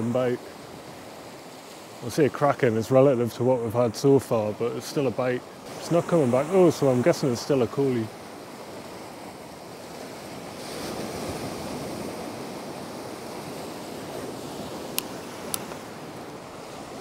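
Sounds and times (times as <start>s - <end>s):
surf washing on shore: 0.0s - 17.0s.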